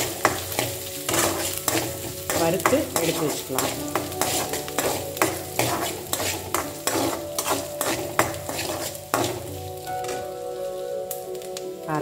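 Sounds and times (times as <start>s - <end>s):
metal ladle scraping and stirring: 0.0s - 10.3s
light sizzle of frying: 0.0s - 12.0s.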